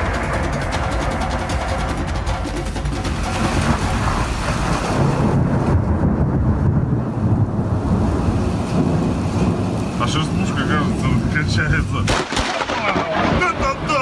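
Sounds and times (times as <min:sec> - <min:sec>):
rain: 0:00.0 - 0:14.0
thunder rumbling: 0:00.0 - 0:14.0.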